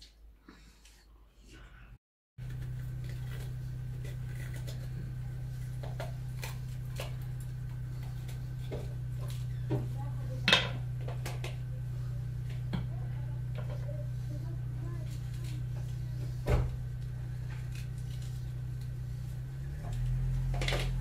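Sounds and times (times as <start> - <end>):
steady low hum: 1.8 - 21.0.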